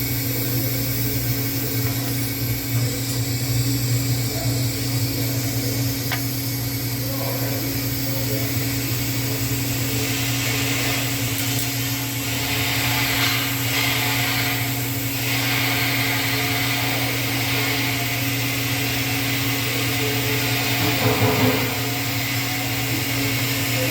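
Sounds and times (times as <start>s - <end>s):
welding arc hiss: 0.0s - 23.9s
welding set electrical hum: 0.0s - 23.9s.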